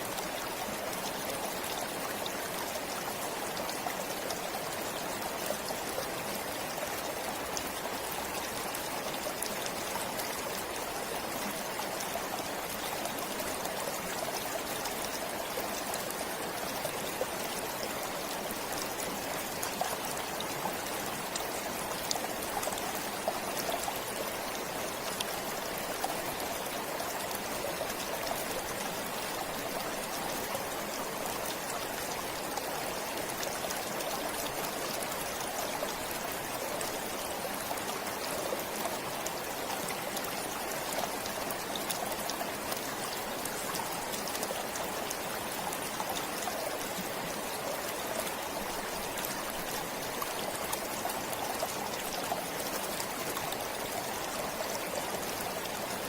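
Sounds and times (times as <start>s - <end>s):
small stream flowing: 0.0s - 56.0s.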